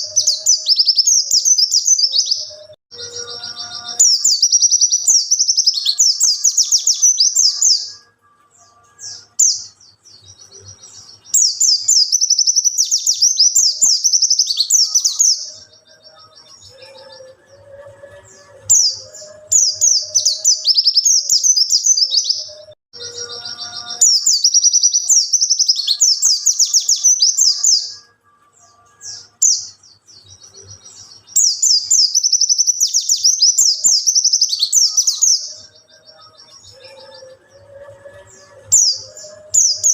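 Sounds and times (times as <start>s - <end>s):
bird high twittering song: 0.0s - 39.9s.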